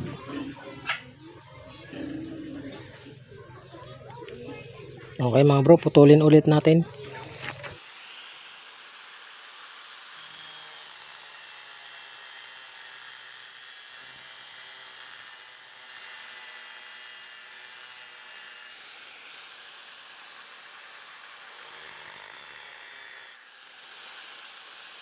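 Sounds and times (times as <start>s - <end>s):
power tool whirring: 0.0s - 25.0s.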